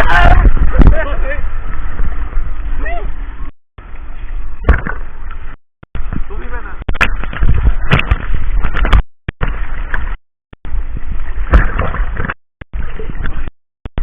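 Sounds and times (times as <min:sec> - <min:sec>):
sea water sloshing and splashing: 0:00.0 - 0:13.5.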